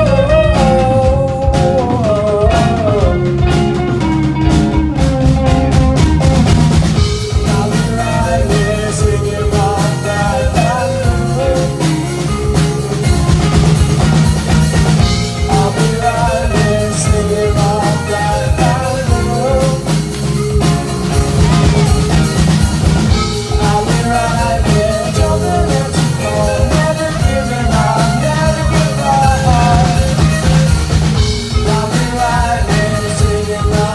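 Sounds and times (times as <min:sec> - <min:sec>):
lead singer singing: 0:00.0 - 0:04.1, 0:07.0 - 0:13.8, 0:14.5 - 0:33.9
drum kit: 0:00.0 - 0:33.9
electric bass: 0:00.0 - 0:33.9
electric guitars: 0:00.0 - 0:33.9.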